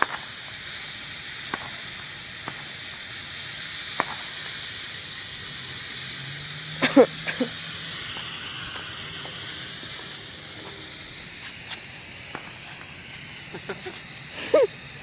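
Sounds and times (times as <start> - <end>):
smoke firework hissing: 0.0 - 15.0.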